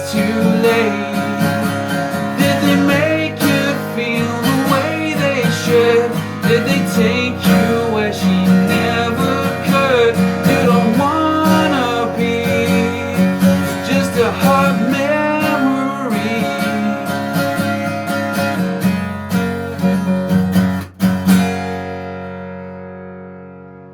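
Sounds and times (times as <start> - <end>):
guitar lead lines: 0.0 - 23.9
strummed acoustic guitar: 0.0 - 23.9.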